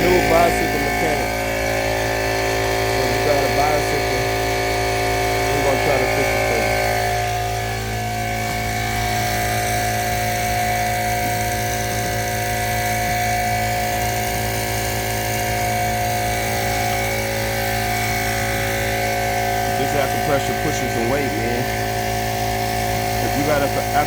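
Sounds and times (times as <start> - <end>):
air compressor running: 0.0 - 24.0.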